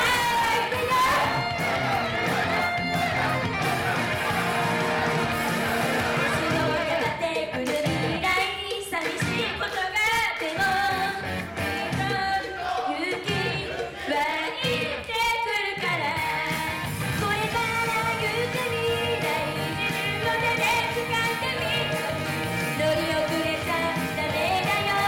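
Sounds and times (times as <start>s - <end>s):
young women singing: 0.0s - 3.9s, 5.8s - 25.0s
loud backing music: 0.0s - 25.0s.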